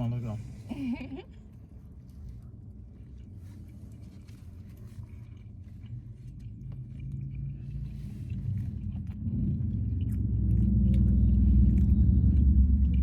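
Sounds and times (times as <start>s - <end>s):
low vehicle rumble: 0.0s - 13.0s
faint chewing: 1.3s - 13.0s.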